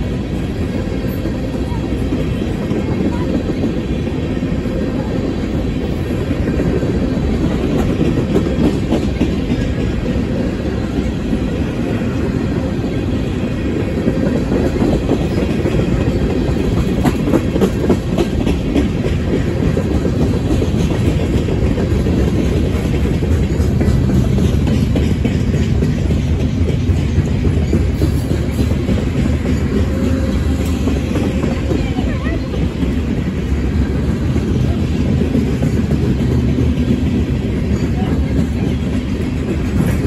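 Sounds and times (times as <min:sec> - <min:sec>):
train wheels rumbling on rail: 0:00.0 - 0:40.0
wheels clacking over rail joints: 0:00.0 - 0:40.0.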